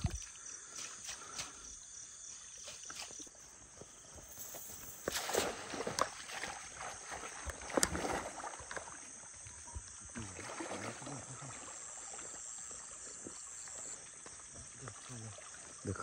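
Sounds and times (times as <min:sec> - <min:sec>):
insects chirring: 0:00.0 - 0:16.0
water splashing and sloshing: 0:00.0 - 0:16.0.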